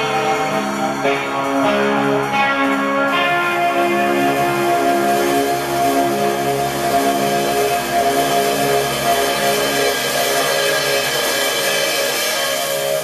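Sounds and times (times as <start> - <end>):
sustained electric guitar notes: 0.0 - 12.0
cymbals washing: 0.0 - 13.0.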